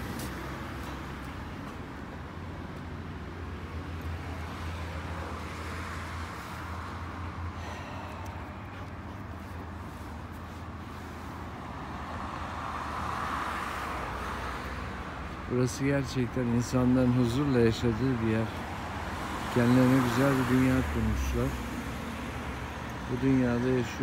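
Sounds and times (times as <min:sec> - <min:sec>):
car passing: 0:00.0 - 0:24.0
road traffic noise: 0:00.0 - 0:24.0.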